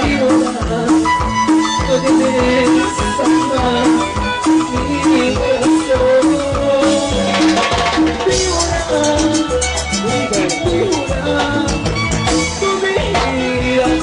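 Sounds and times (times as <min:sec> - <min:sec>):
bass line: 0:00.0 - 0:14.0
drum beat: 0:00.0 - 0:14.0
electric guitar: 0:00.0 - 0:14.0.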